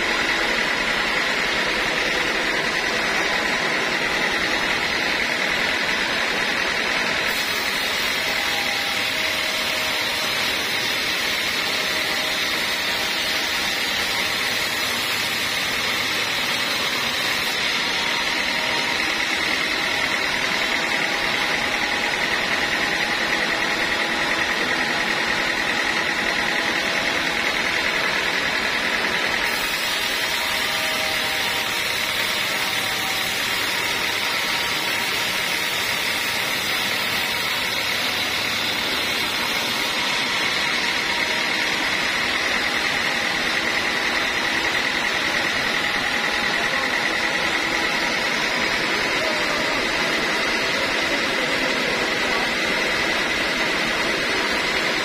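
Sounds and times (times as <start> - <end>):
band saw cutting wood: 0.0 - 55.0
high machine whine: 0.0 - 55.0.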